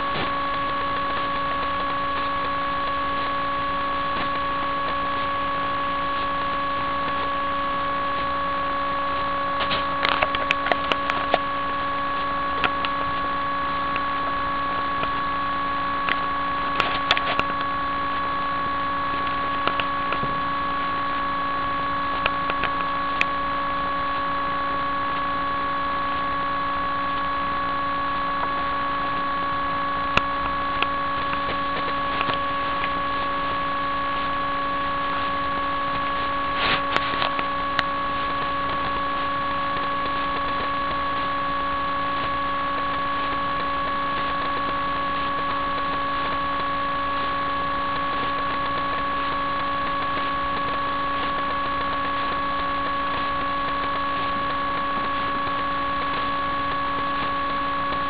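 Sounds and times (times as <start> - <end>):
electronic hum of held tones: 0.0 - 58.0.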